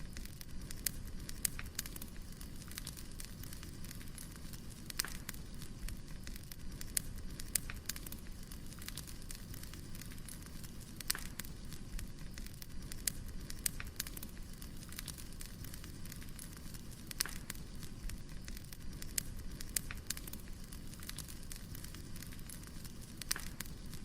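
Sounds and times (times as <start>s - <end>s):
firewood crackling and popping: 0.0s - 24.0s
low rumble of fire: 0.0s - 24.0s.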